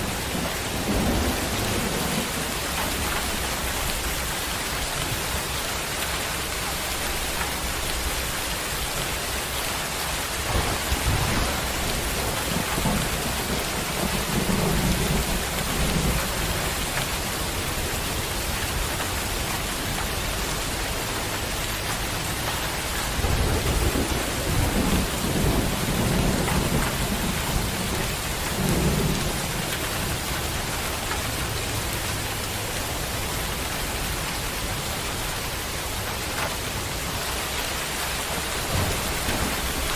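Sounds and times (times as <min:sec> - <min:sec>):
thunder rumbling: 0:00.0 - 0:05.5, 0:09.2 - 0:33.2, 0:34.8 - 0:39.9
heavy rain falling: 0:00.0 - 0:39.9.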